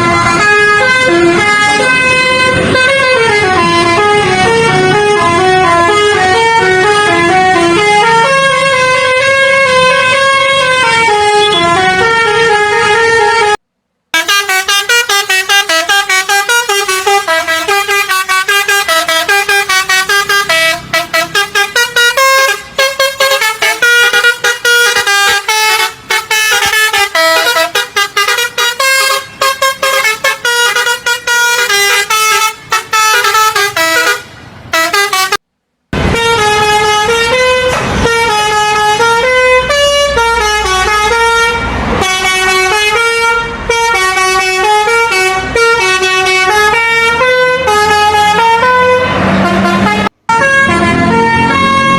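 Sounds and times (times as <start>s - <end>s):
musical bus air horn: 0.0s - 51.9s.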